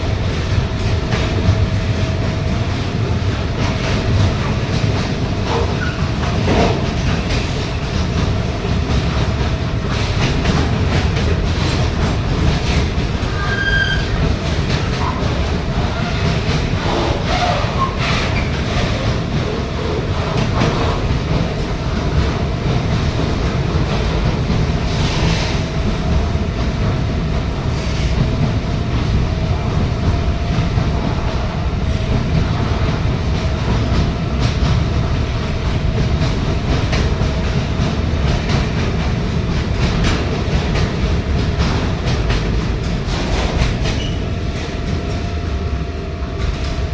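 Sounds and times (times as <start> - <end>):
wheels clacking over rail joints: 0.0 - 29.0, 30.0 - 45.4
train wheels rumbling on rails: 0.0 - 46.9.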